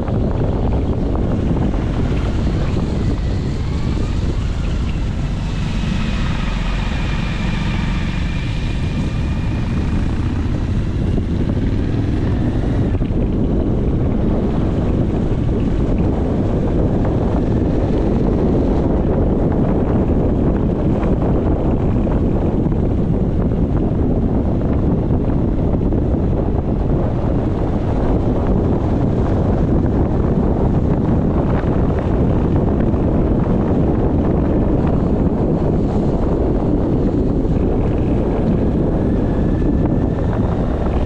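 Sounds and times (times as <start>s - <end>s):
wind buffeting the microphone: 0.0s - 41.0s.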